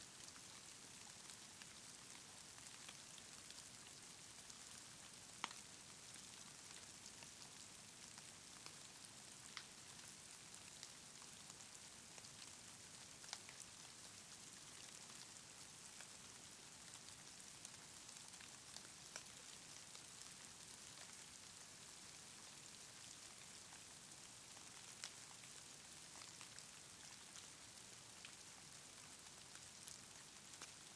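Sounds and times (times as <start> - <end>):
light rain hiss: 0.0 - 30.9
soft raindrop ticks: 0.1 - 30.9.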